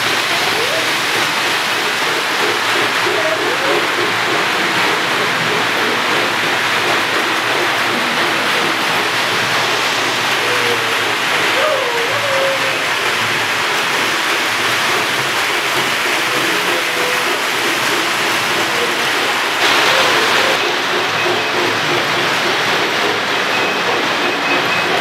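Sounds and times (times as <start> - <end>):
toy train whirring on track: 0.0 - 25.0.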